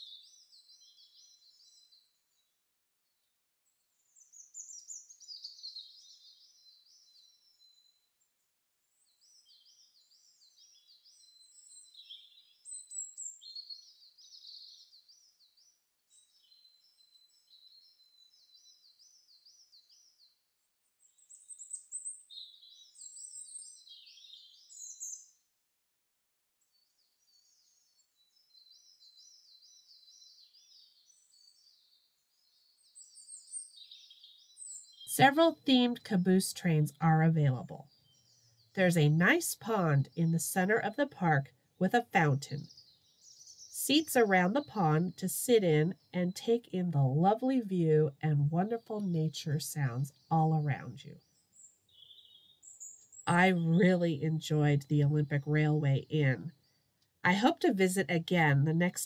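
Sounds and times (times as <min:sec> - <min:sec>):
songbirds chirping and singing: 0:00.0 - 0:25.4, 0:26.7 - 0:59.0.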